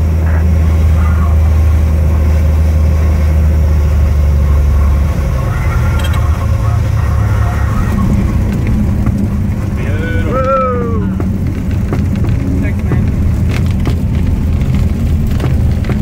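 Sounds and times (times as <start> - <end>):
propeller engine humming: 0.0 - 16.0.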